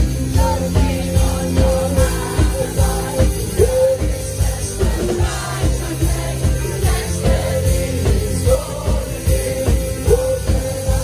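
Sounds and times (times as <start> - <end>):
drums keeping a steady beat: 0.0 - 11.0
live rock band playing: 0.0 - 11.0.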